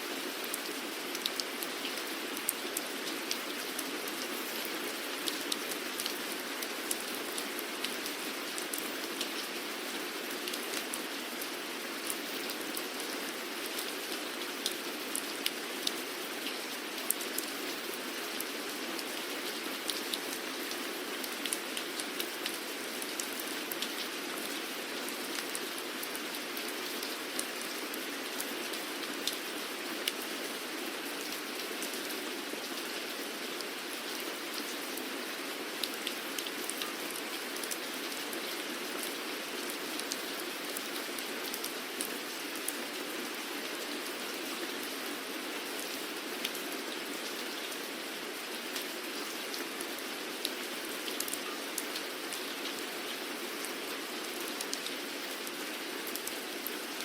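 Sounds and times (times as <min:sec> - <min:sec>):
raindrops ticking on a surface: 0:00.1 - 0:44.9, 0:45.6 - 0:57.0.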